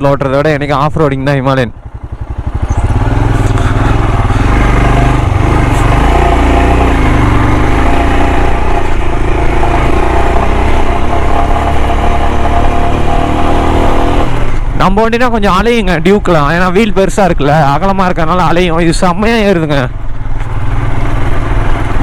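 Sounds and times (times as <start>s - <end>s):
motorcycle engine running under load: 0.1s - 16.8s, 17.4s - 22.0s.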